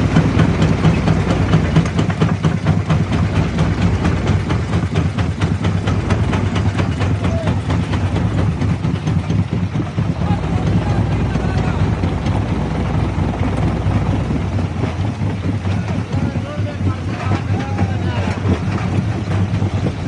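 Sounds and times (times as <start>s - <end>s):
jaw crusher machine drone: 0.0s - 20.0s.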